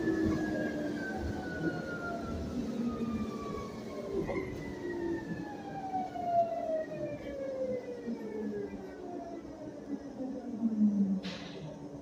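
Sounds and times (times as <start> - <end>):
electric bus motor whine: 0.0 - 12.0.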